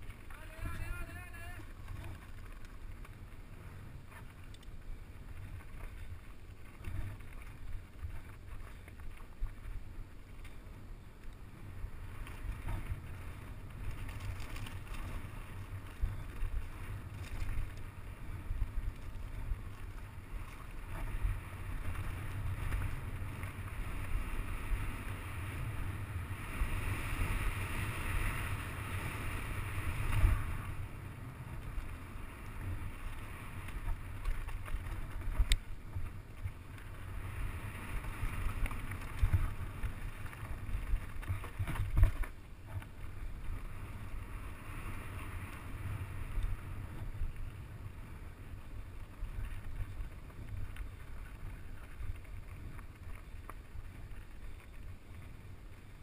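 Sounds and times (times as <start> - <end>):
bike rattling over bumps: 0.0 - 56.0.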